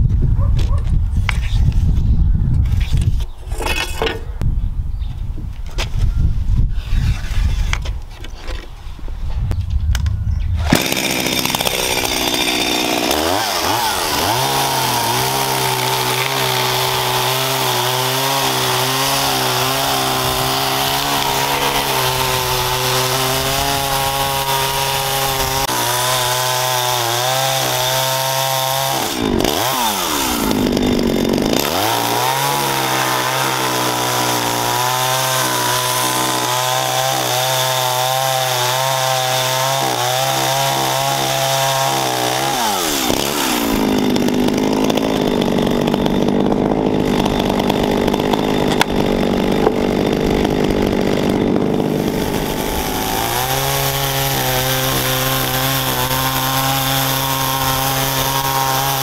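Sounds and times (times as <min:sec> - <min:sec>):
chainsaw cutting wood: 0:10.6 - 0:59.0.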